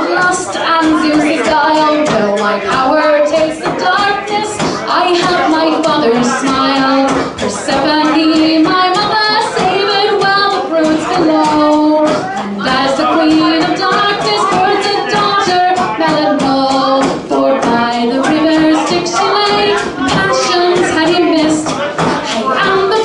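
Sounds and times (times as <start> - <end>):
frame drum beating: 0.0 - 23.0
woman singing: 0.0 - 23.0.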